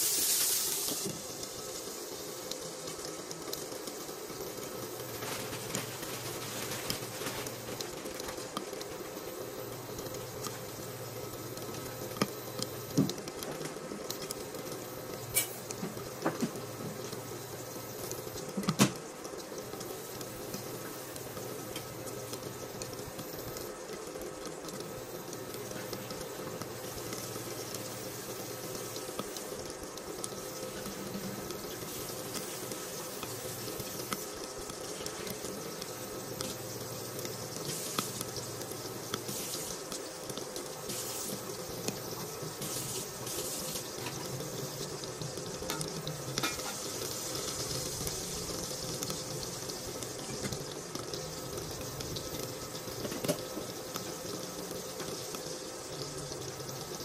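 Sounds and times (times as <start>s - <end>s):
meat sizzling in fat: 0.0s - 57.0s.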